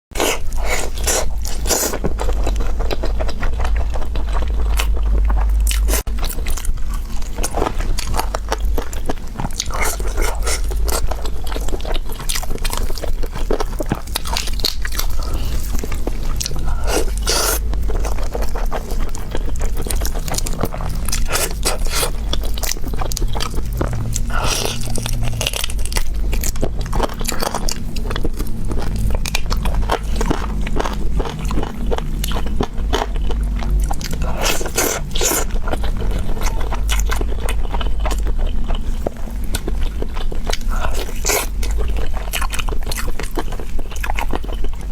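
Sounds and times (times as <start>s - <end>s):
biting and chewing: 0.2s - 44.9s
steady low hum: 0.2s - 44.9s.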